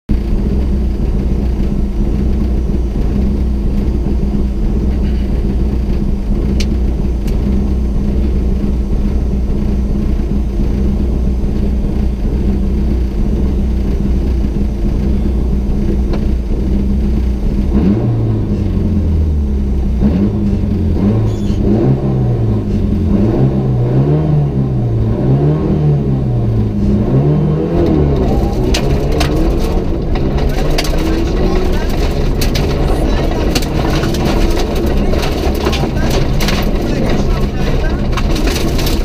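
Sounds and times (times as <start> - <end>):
car engine idling: 0.1 - 39.0.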